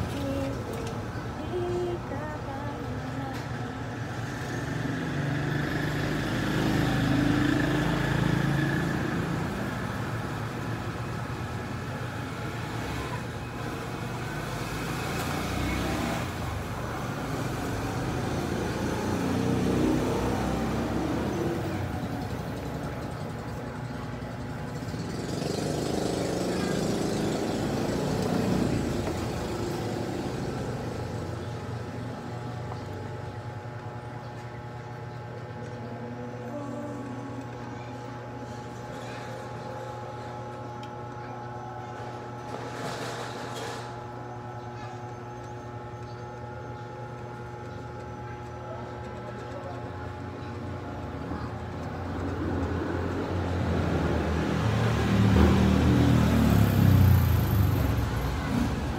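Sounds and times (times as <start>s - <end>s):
road traffic rumble: 0.0s - 58.9s.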